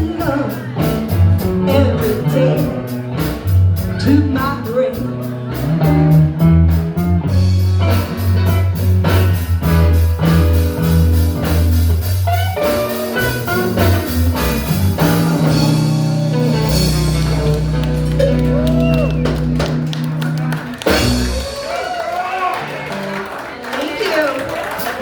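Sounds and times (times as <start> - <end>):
bass guitar deep notes: 0.0 - 21.7
drum kit: 0.0 - 22.4
guitar: 0.0 - 23.5.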